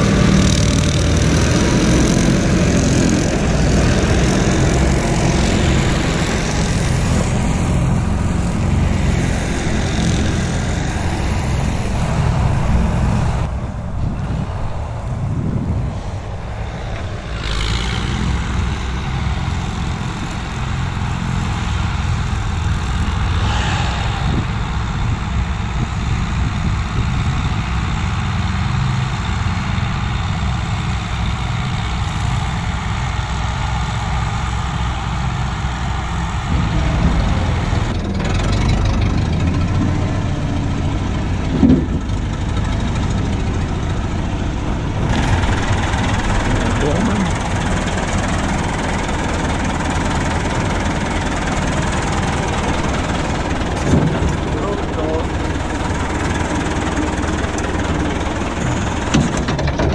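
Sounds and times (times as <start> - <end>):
heavy engine rumbling: 0.0 - 59.9.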